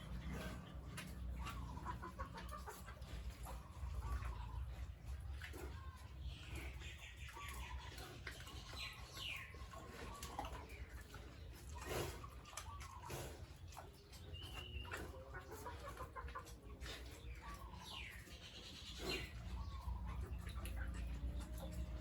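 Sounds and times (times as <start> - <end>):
farm animals calling: 0.0 - 22.0.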